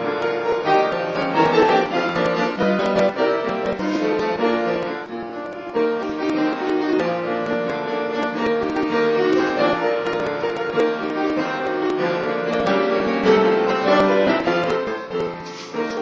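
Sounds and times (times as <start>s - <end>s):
piano: 0.0s - 16.0s.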